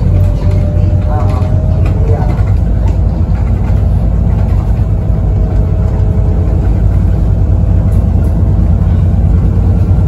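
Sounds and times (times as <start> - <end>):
bus engine rumble: 0.0 - 10.0.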